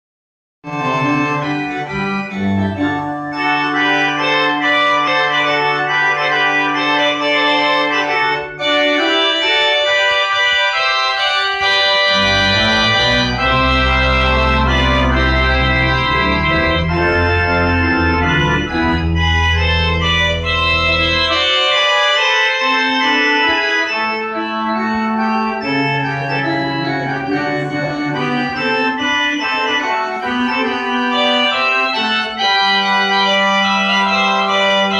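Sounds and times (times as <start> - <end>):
pipe organ chords: 0.6 - 34.9
deep organ bass notes: 0.7 - 34.9.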